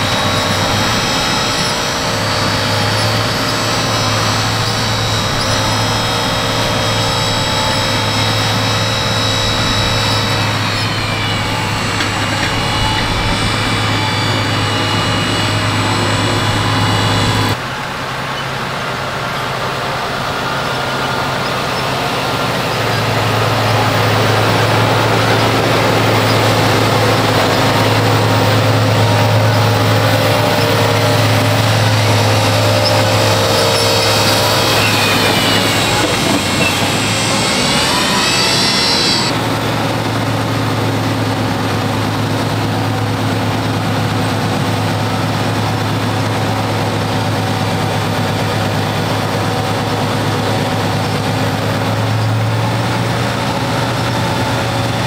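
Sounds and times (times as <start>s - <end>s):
high whine: 0.0s - 55.0s
tractor engine running under load: 0.0s - 55.0s.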